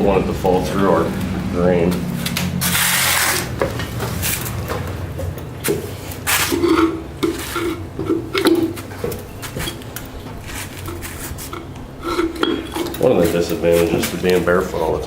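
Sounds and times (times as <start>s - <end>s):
knocks and scrapes of handling: 2.3s - 14.5s.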